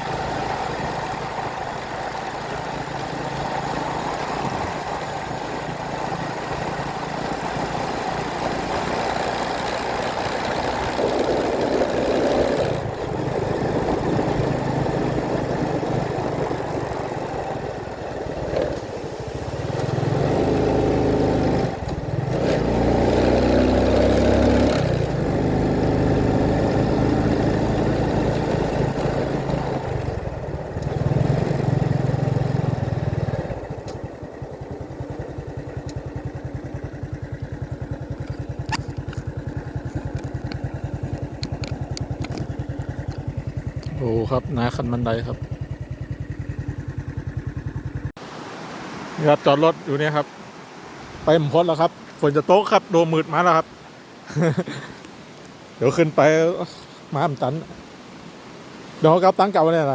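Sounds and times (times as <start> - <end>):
vehicle engine running: 0.0 - 48.2
wind and road noise: 0.0 - 59.9.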